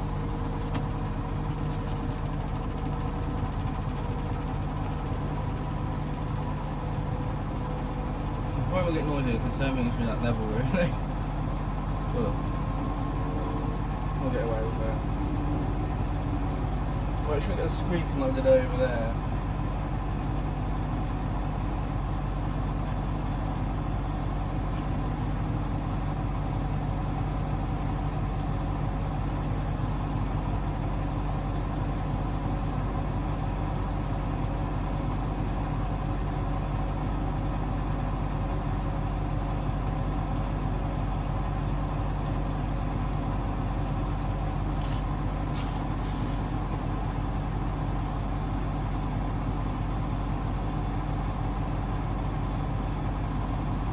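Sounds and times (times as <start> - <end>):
washing machine spin hum: 0.0 - 53.9.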